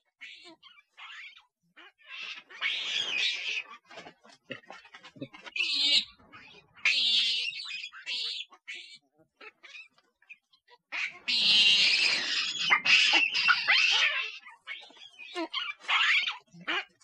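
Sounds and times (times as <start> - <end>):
monkeys calling with high cries: 0.1 - 17.0.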